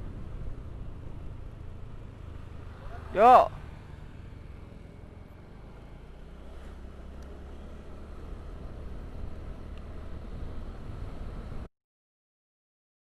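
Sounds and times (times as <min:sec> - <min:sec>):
motorcycle engine humming: 0:00.0 - 0:11.7.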